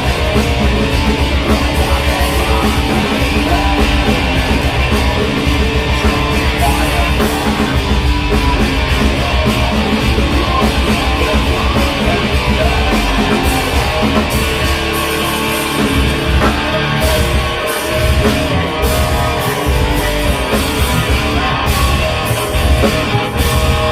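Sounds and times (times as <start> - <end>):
electric guitar: 0.0 - 23.9
live rock band playing: 0.0 - 23.9.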